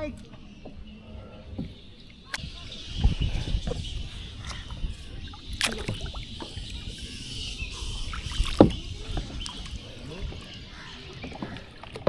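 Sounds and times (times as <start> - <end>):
paddle splashing in water: 1.6 - 12.0.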